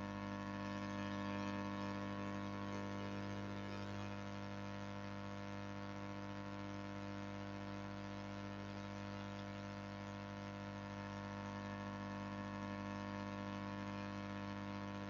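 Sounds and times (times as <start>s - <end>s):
low electrical hum with tones: 0.0s - 15.0s.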